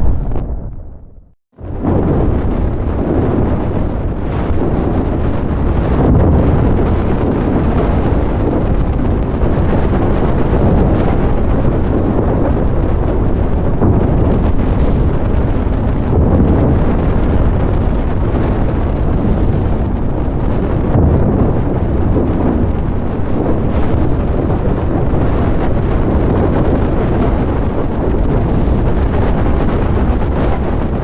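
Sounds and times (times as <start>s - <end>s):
large fire burning: 0.0s - 31.0s.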